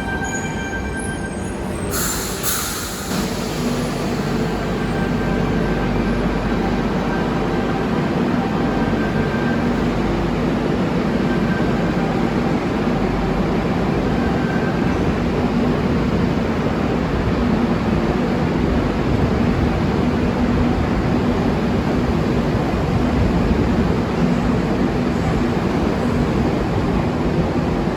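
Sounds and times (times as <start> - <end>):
train wheels rumbling on rail: 0.8 - 27.9.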